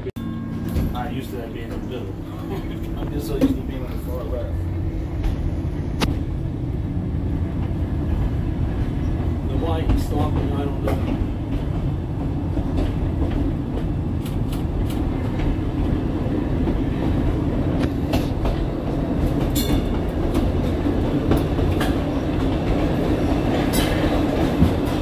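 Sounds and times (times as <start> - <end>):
trolley wheels rumbling: 0.0 - 25.0
wheels clicking over rail joints: 0.6 - 4.4, 7.5 - 25.0.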